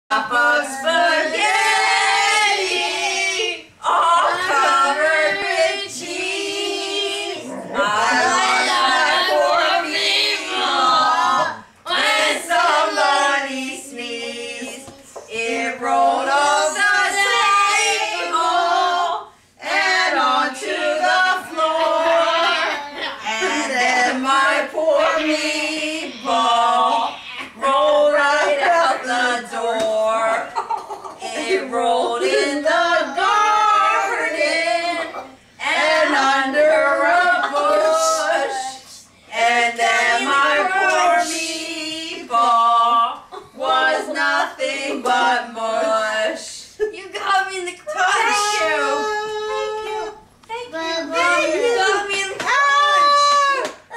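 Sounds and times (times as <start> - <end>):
women and children singing: 0.1 - 53.9.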